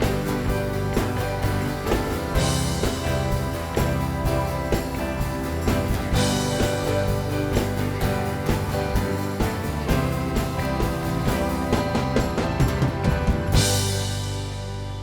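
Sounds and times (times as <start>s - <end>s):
band playing guitars and bass: 0.0s - 15.0s.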